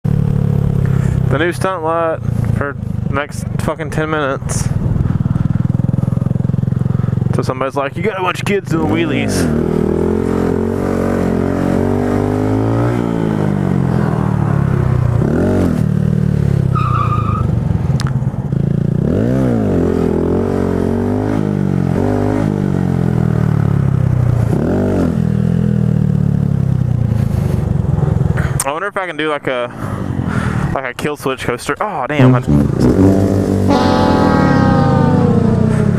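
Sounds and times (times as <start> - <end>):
motorcycle engine revving: 0.0 - 28.6, 32.2 - 35.9.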